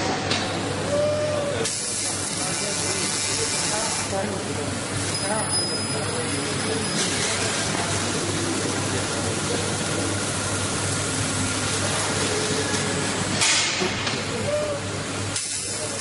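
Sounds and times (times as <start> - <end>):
laser cutting machine hissing: 0.6 - 16.0.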